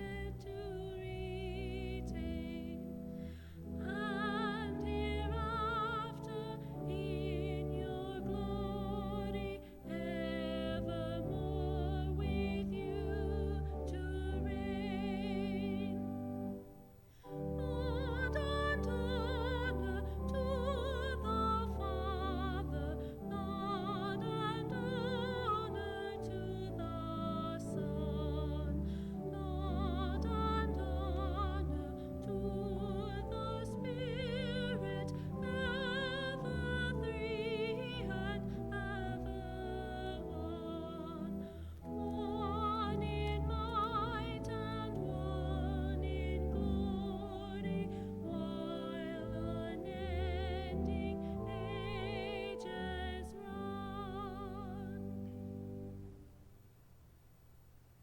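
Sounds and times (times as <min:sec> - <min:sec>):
person singing with vibrato: 0:00.0 - 0:55.7.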